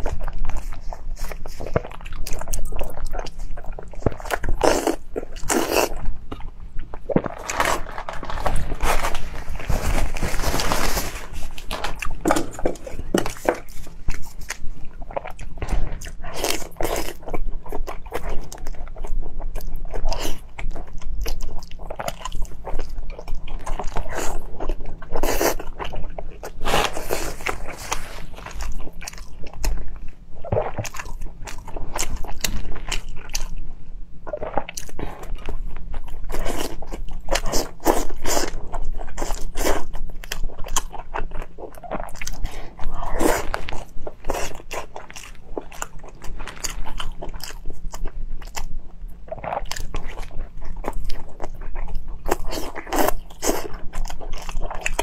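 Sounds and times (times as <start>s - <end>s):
chewing with crunchy clicks: 0.0s - 8.5s, 11.8s - 55.0s.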